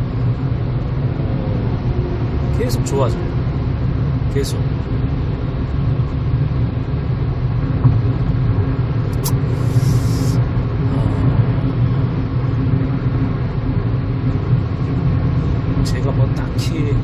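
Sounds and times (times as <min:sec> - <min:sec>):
car cabin engine and road rumble: 0:00.0 - 0:17.0.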